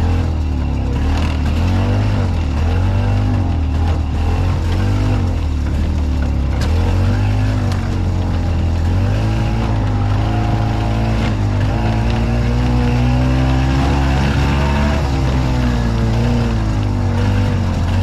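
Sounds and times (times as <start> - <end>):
golf cart engine running: 0.0 - 18.0.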